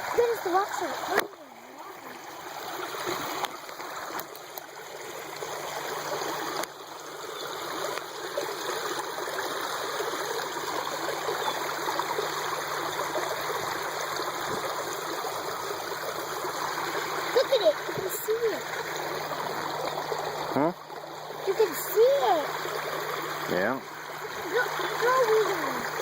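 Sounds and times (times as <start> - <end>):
water flowing into a pond: 0.0 - 26.0.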